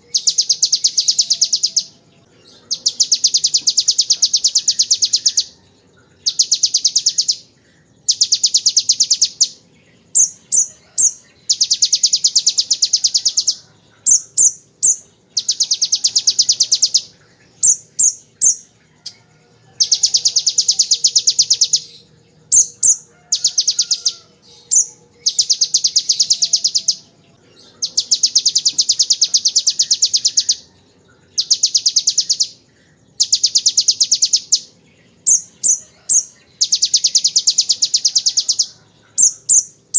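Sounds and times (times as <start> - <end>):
bird chirps: 0.0 - 39.9.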